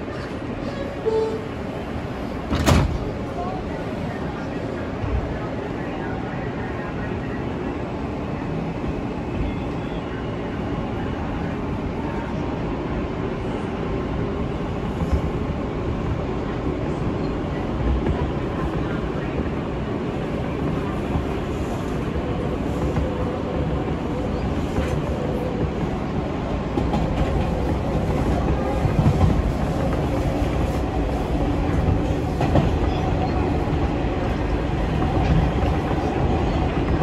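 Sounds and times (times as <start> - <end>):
subway train rumble: 0.0 - 37.0.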